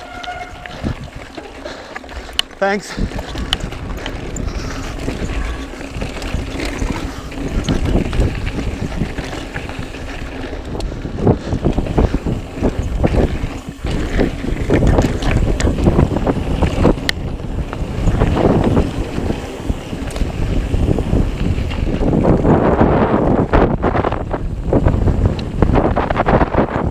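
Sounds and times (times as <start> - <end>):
bike knocking and rattling: 0.0 - 26.9
tyres rumbling on dirt trail: 0.0 - 26.9
wind buffeting microphone: 0.0 - 26.9.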